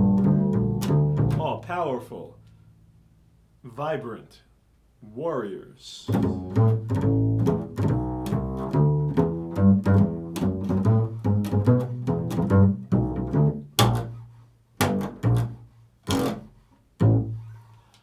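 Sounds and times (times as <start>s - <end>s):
double bass plucked: 0.0s - 3.1s, 6.1s - 17.8s.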